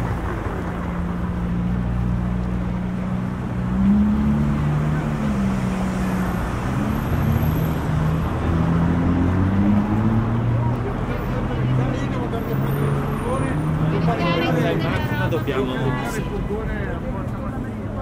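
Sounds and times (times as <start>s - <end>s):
car engines passing: 0.0s - 18.0s
tyre and street noise: 0.0s - 18.0s.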